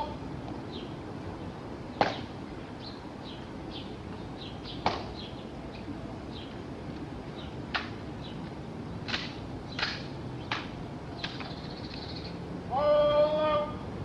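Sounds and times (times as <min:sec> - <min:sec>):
birds chirping faintly: 0:00.0 - 0:13.6.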